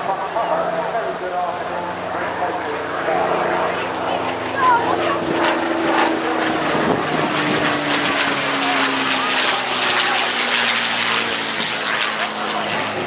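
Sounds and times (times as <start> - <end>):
aircraft engine flying past: 0.0 - 13.0.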